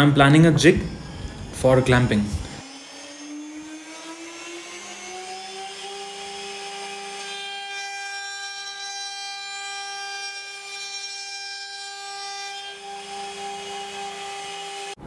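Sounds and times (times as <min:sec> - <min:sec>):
router spindle motor whine: 0:00.0 - 0:15.0.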